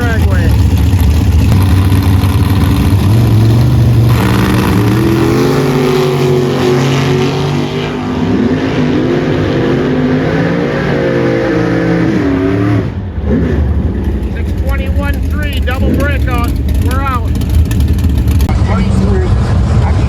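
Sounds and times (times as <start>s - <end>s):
drag-race car engines revving: 0.0s - 20.0s.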